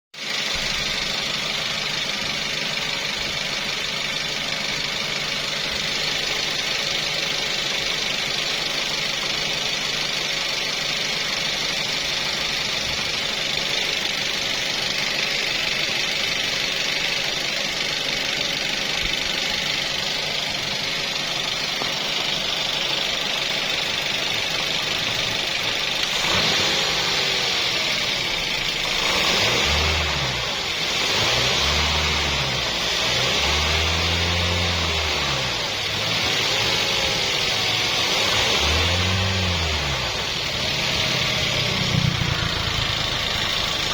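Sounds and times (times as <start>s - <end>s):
car engine idling: 0.2s - 43.9s
engine ticking: 0.2s - 43.9s.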